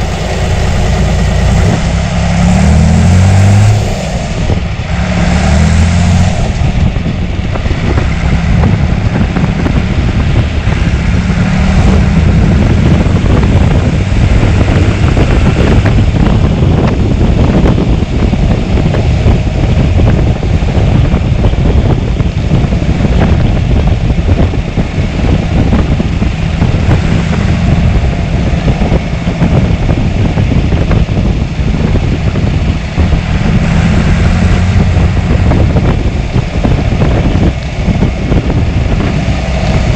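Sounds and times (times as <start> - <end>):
tractor engine running: 0.0 - 39.9
wind buffeting microphone: 0.0 - 39.9.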